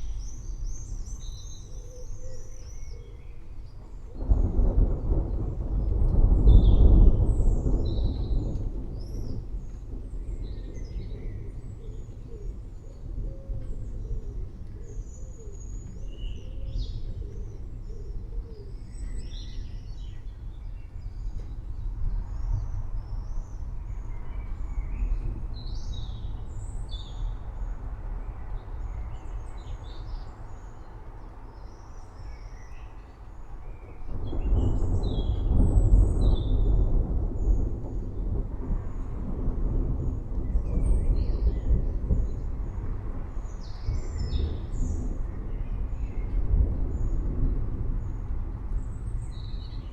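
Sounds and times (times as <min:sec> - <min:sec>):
thunder rumbling: 0:00.0 - 0:49.9.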